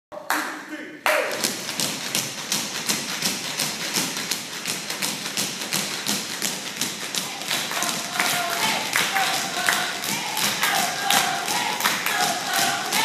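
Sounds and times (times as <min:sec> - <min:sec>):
tap shoes on wooden floor: 0:01.4 - 0:13.0.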